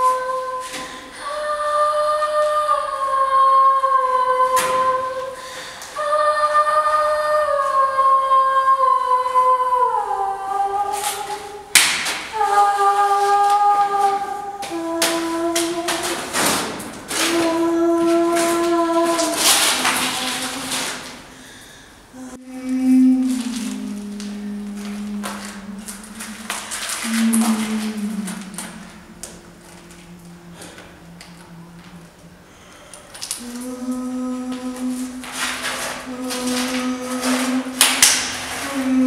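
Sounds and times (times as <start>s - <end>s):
person singing wordlessly: 0.0s - 11.6s, 12.3s - 21.2s, 22.2s - 32.1s, 33.3s - 39.0s.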